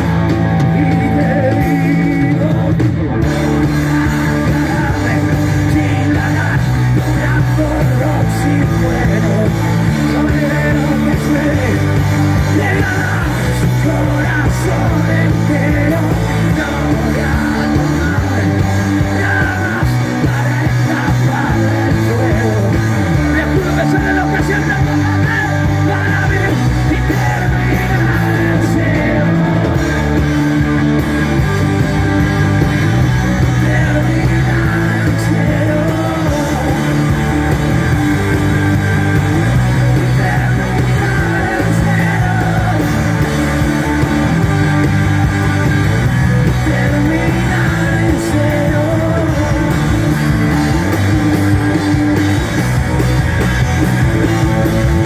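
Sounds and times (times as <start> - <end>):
person singing: 0.0 - 30.7, 32.6 - 45.0, 46.2 - 52.2
bass guitar: 0.0 - 55.0
drum kit: 0.0 - 55.0
electric guitars: 0.0 - 55.0.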